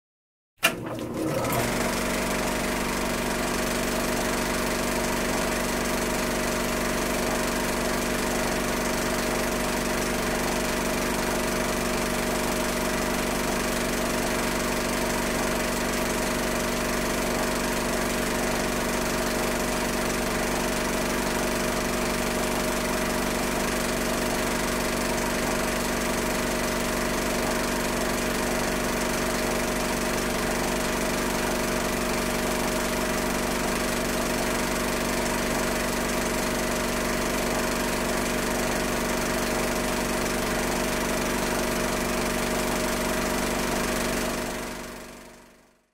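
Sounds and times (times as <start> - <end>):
film projector whirring: 0.6 - 45.5.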